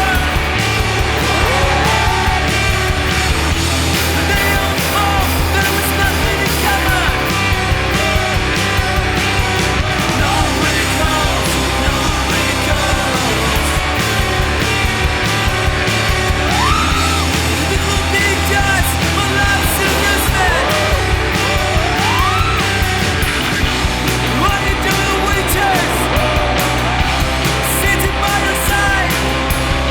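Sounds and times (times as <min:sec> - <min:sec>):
rock music with singing: 0:00.0 - 0:29.9.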